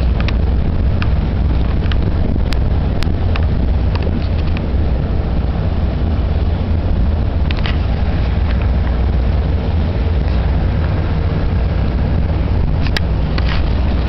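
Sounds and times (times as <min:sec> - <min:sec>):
distant boat engine hum: 0:00.0 - 0:14.0
wind buffeting microphone: 0:00.0 - 0:14.0.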